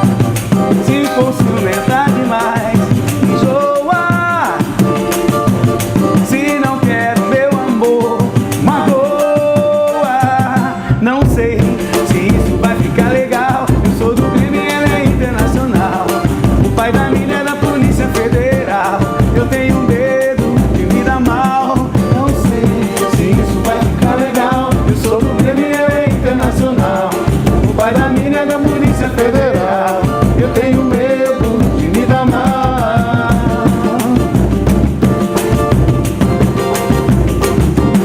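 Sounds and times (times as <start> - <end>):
band playing live: 0.0 - 38.0
drums and percussion beat: 0.0 - 38.0.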